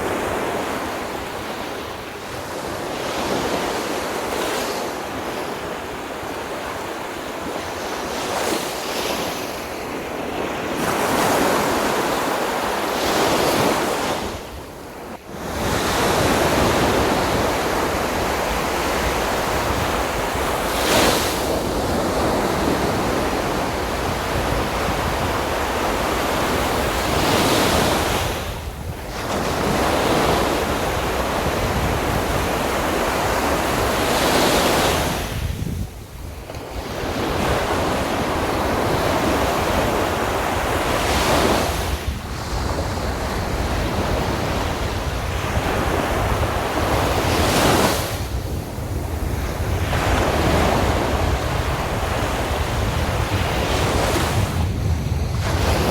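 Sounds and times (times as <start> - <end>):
sea waves breaking on beach: 0.0 - 55.9
wind buffeting microphone: 0.0 - 55.9.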